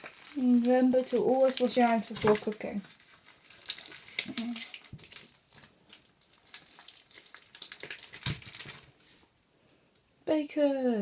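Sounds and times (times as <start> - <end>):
bacon rustling into frying pan: 0.0 - 9.4.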